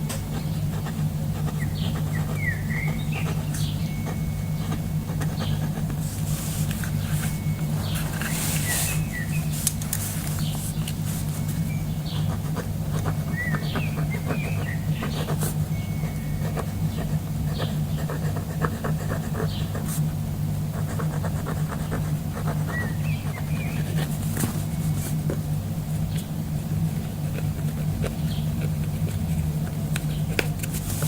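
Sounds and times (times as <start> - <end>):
steady low hum: 0.0 - 31.0
birds chirping: 0.1 - 6.0, 6.8 - 18.2, 19.4 - 19.8, 22.4 - 30.4.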